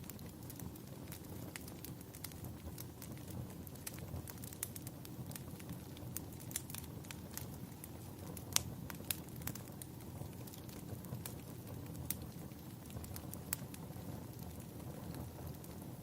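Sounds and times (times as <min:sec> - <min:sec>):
low rumble of burning: 0:00.0 - 0:16.0
wood fire crackling and popping: 0:00.0 - 0:16.0.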